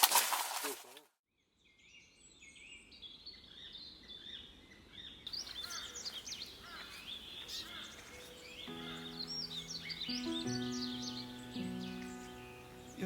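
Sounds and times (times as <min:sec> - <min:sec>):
songbirds chirping and singing: 0:01.6 - 0:13.0.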